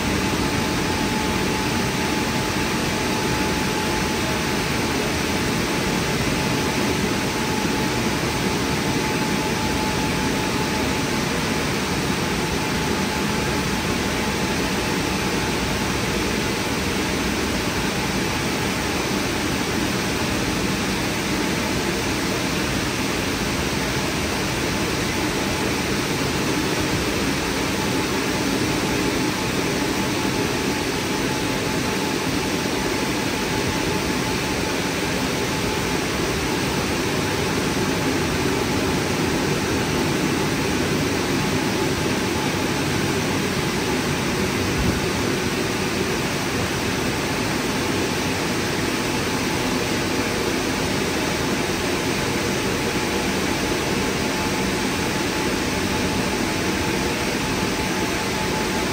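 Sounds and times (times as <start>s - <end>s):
drying blowers rushing air: 0.0s - 58.9s
faint steady whine: 0.0s - 58.9s.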